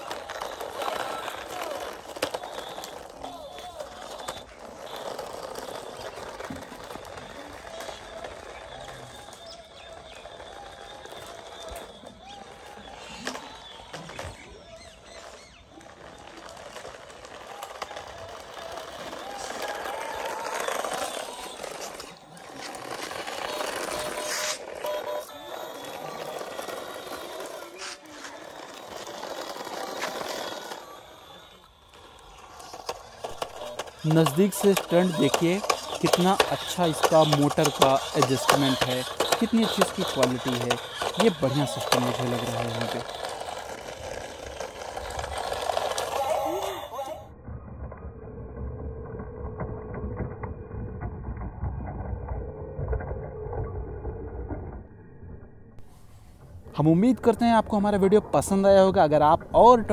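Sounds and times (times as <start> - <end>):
toy car motors whirring: 0.0 - 54.8
plastic wheels scraping on concrete: 0.0 - 54.9.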